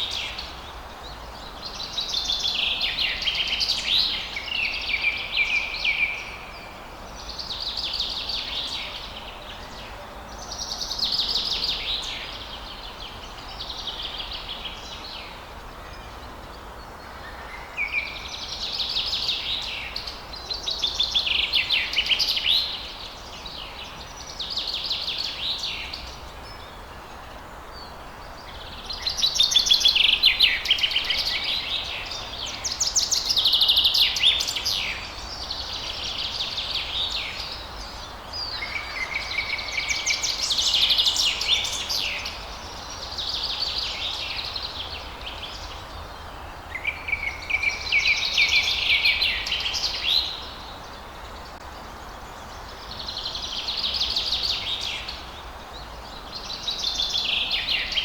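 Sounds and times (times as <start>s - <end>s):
low background noise: 0.0s - 58.0s
songbirds singing: 0.0s - 58.0s.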